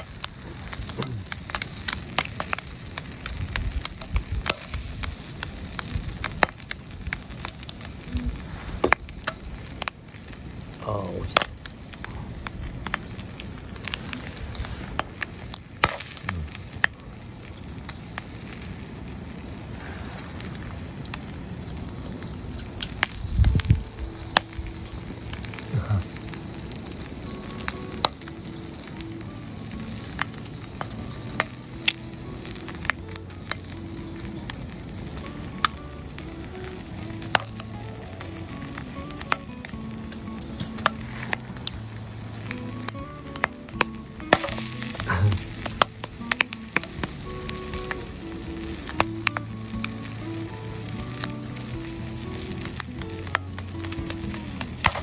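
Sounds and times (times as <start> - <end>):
bacon sizzling: 0.0 - 55.0
pops and crackles: 0.0 - 55.0.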